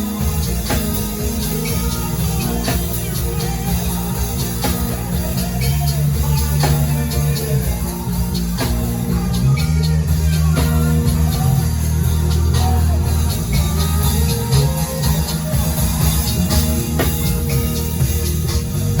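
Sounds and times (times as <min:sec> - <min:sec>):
band playing instrumental: 0:00.0 - 0:19.0
drum kit steady beat: 0:00.0 - 0:19.0.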